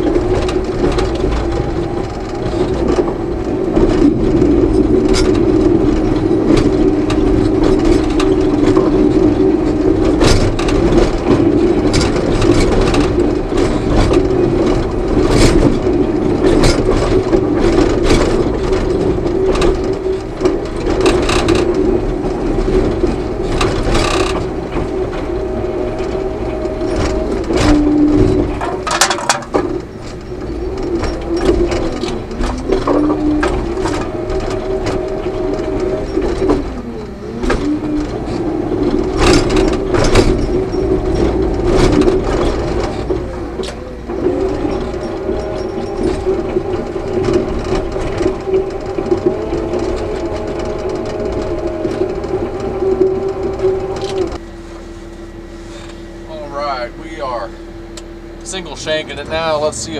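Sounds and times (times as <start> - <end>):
bulldozer diesel engine under load: 0.0 - 59.9
tracks and cab rattling: 0.0 - 59.9.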